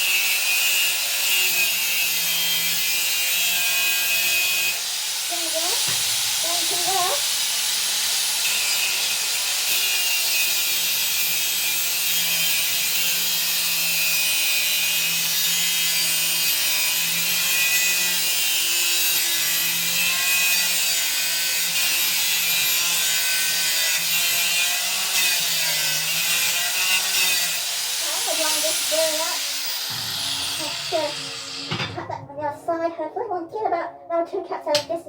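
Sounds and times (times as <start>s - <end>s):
angle grinder cutting steel: 0.0s - 32.0s.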